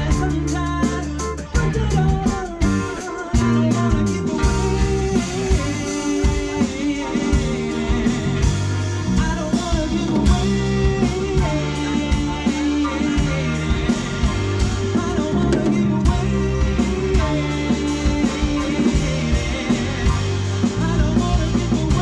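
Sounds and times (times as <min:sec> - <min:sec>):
live band playing soul-pop: 0:00.0 - 0:22.0
person singing: 0:00.0 - 0:22.0.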